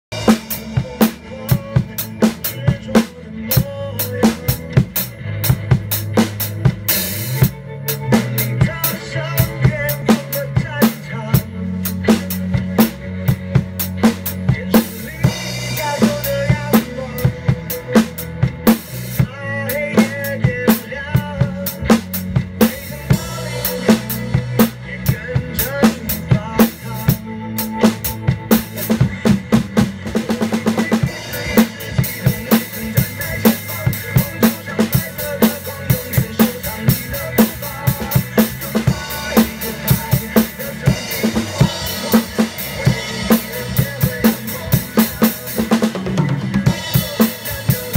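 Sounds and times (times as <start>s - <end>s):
acoustic drum kit groove: 0.0s - 47.9s.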